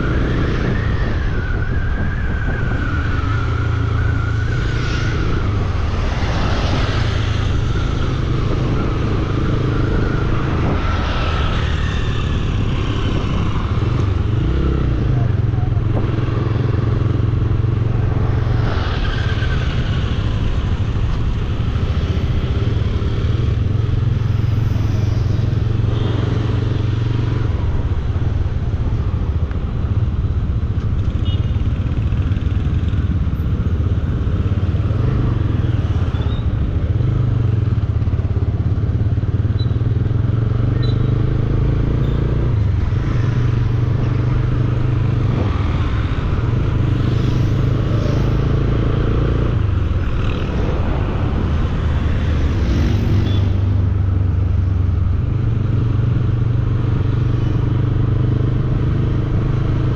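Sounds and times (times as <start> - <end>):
road noise: 0.0 - 59.9.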